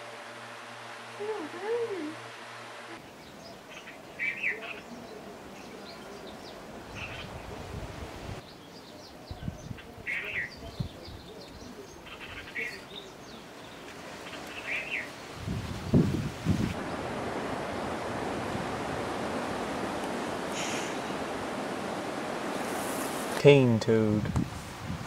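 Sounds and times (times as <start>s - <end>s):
outdoor background noise: 0.0s - 25.0s
birds chirping: 1.2s - 7.8s, 8.4s - 24.1s.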